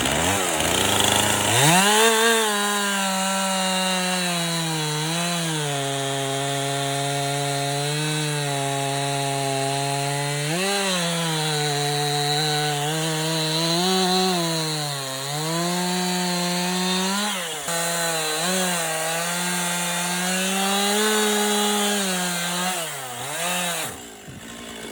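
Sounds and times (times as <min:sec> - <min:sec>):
chainsaw running at high revs: 0:00.0 - 0:24.9.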